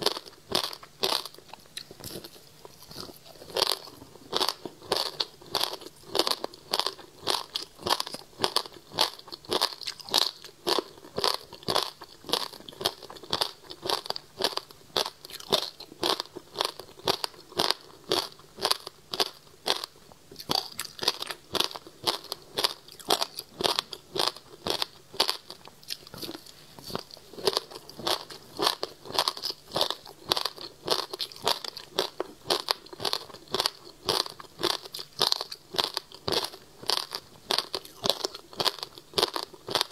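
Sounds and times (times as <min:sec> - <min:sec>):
crunching frozen fruit: 0:00.0 - 0:39.9.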